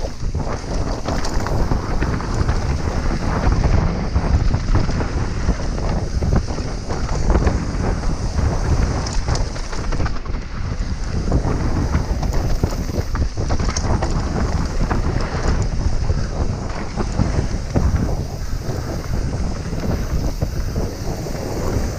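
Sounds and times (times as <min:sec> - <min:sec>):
bike rattling and knocking: 0:00.0 - 0:21.9
tyres running over dirt and rock: 0:00.0 - 0:21.9
wind rushing over microphone: 0:00.0 - 0:21.9.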